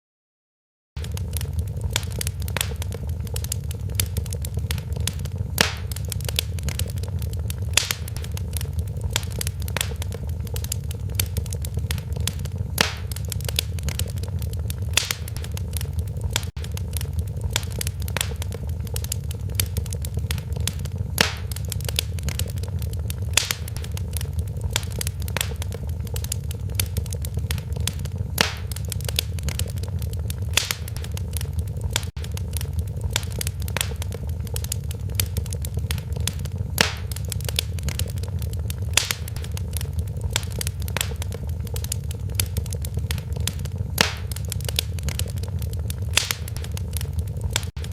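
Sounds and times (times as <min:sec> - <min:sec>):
low rumble: 0:01.0 - 0:47.9
wood fire crackling and popping: 0:01.0 - 0:47.9.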